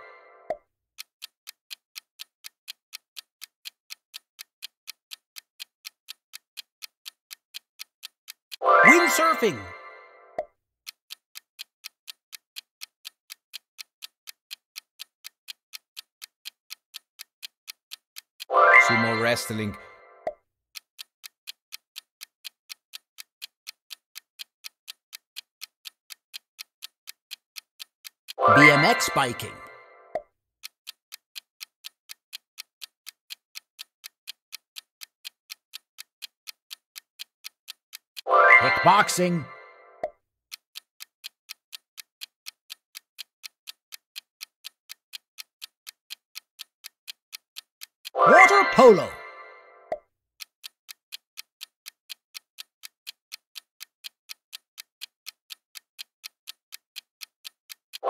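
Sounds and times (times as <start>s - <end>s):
clock ticking evenly: 0.0s - 58.0s.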